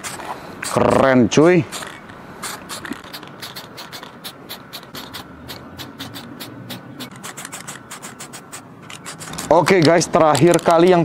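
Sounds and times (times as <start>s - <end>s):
spray paint can hissing bursts: 0.0s - 9.5s.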